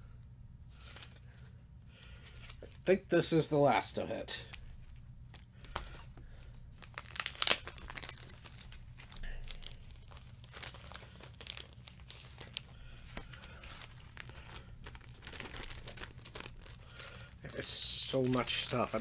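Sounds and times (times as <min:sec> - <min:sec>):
paper and plastic sleeves rustling: 0:00.7 - 0:19.0.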